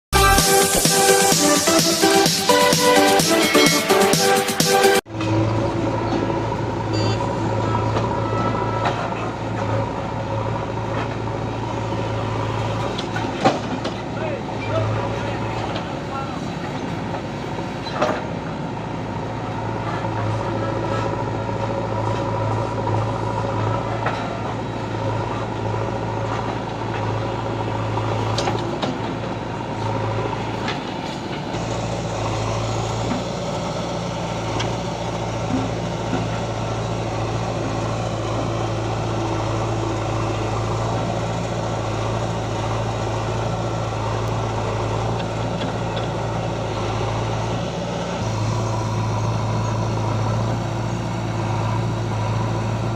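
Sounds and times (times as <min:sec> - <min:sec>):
heavy diesel engine running: 0:00.1 - 0:52.9.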